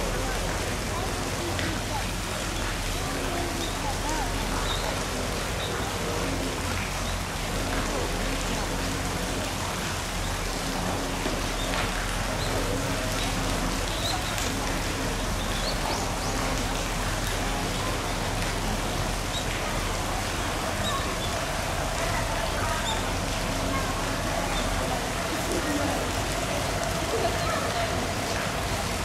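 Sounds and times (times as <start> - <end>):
faint voices: 0.0 - 29.0
steady water noise: 0.0 - 29.0.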